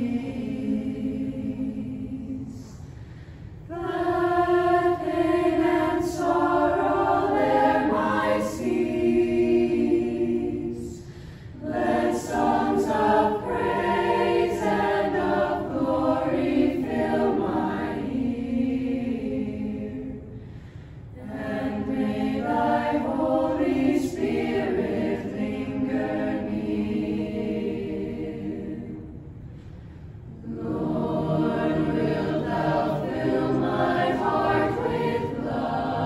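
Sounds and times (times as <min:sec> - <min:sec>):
youth choir singing: 0:00.0 - 0:02.8, 0:03.7 - 0:20.3, 0:21.2 - 0:29.2, 0:30.3 - 0:36.0.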